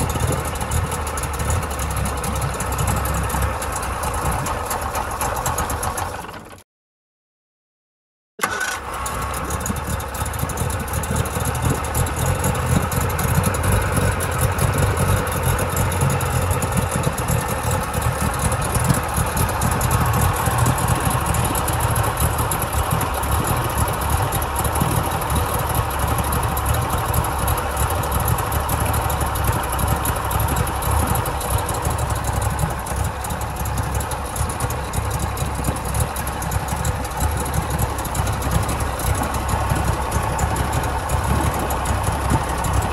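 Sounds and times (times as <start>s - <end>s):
outboard engine idling: 0.0s - 6.6s, 8.4s - 42.9s.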